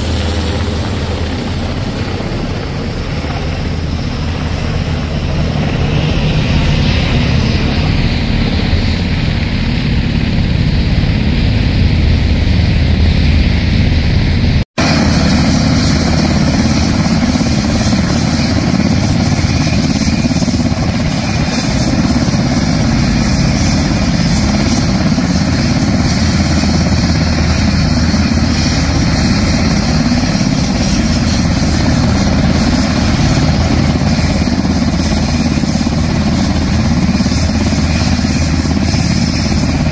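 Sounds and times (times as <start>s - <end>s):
helicopter flying overhead: 0.0s - 39.9s
helicopters idling on ground: 0.0s - 39.9s.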